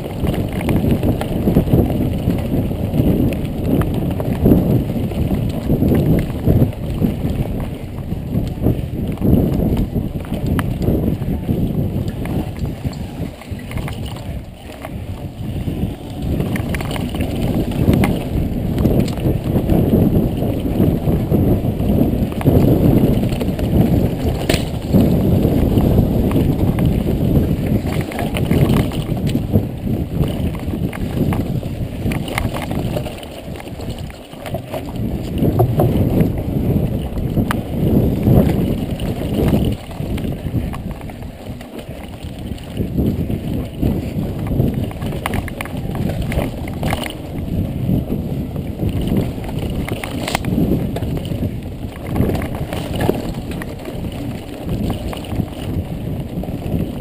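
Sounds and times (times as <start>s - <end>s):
bike rattling over ground: 0.0s - 57.0s
wind buffeting microphone: 0.0s - 57.0s.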